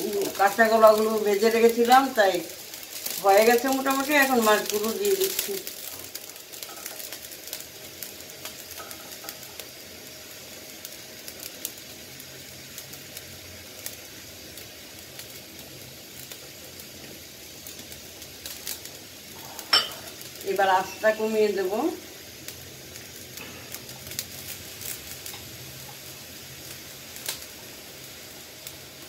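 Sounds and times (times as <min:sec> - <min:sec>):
curry simmering with pops: 0:00.0 - 0:29.0.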